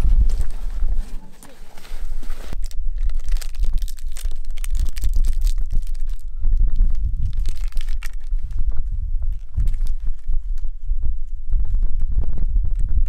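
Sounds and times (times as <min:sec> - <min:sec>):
plastic wrapper crinkling and tearing: 0:00.0 - 0:10.8
low rumble: 0:00.0 - 0:13.0.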